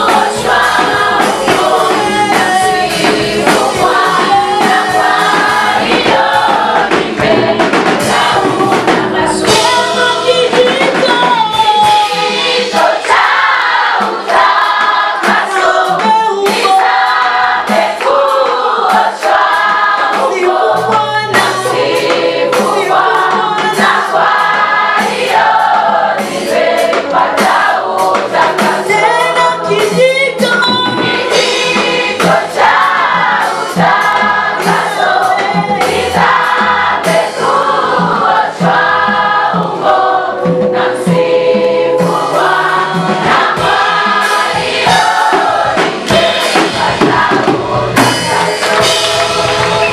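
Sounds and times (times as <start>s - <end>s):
choir singing gospel: 0.0s - 49.9s.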